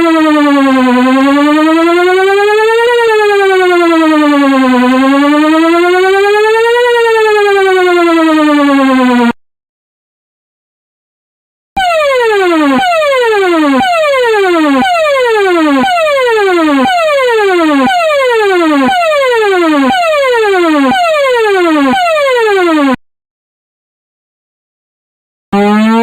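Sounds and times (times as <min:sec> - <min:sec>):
electronic siren falling sweep: 0:00.0 - 0:09.4, 0:11.8 - 0:23.0, 0:25.6 - 0:26.0.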